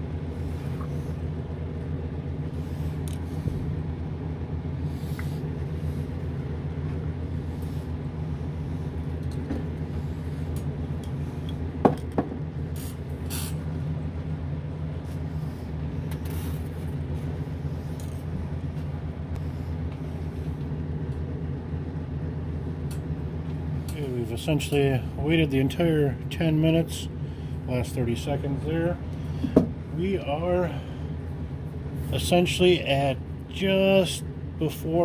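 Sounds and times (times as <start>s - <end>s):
exhaust fan humming: 0.0s - 35.0s.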